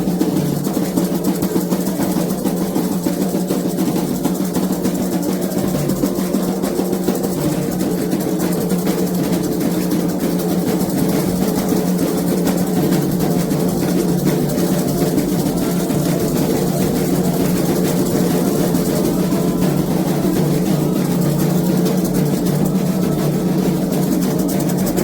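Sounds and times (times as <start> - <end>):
hand drums rapid rhythm: 0.0 - 25.0.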